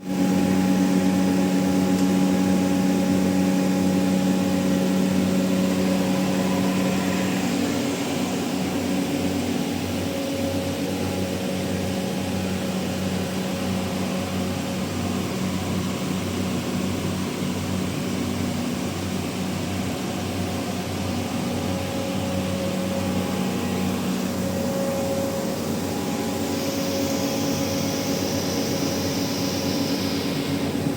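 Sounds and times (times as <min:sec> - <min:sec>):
industrial machinery humming: 0:00.0 - 0:30.9.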